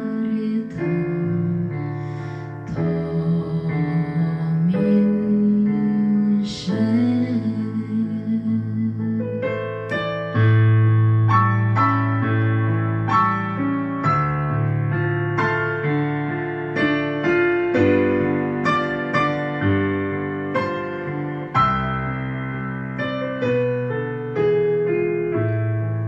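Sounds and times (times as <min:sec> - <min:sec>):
piano-like keyboard notes: 0:00.0 - 0:26.0.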